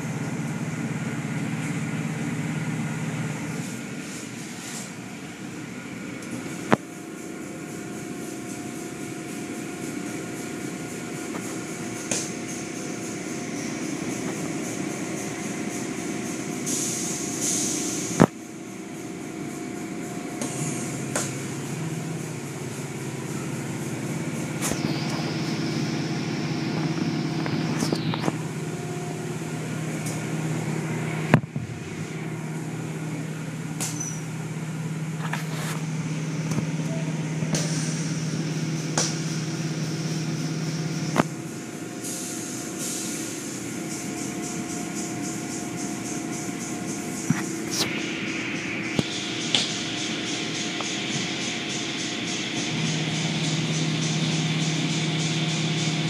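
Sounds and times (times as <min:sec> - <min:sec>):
motors and pumps humming: 0:00.0 - 0:56.0.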